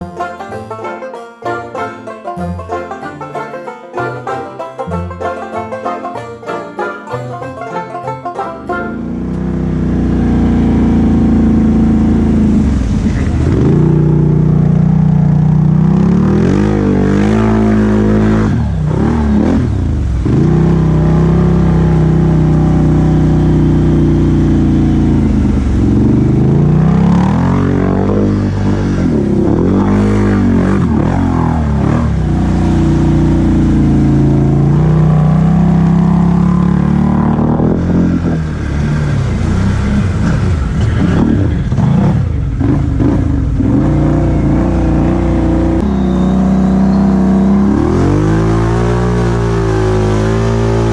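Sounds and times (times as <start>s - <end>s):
atv engine revving: 7.1s - 50.9s.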